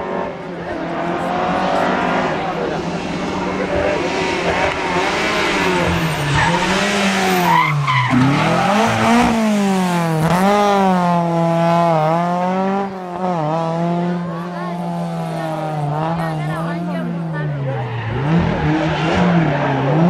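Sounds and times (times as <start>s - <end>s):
rally car engine driven hard: 0.0s - 20.0s.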